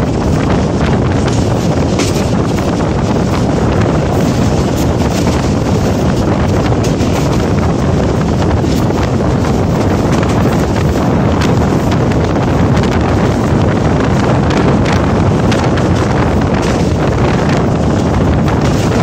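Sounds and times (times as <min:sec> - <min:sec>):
train wheels rumbling: 0:00.0 - 0:19.0
wind buffeting microphone: 0:00.0 - 0:19.0.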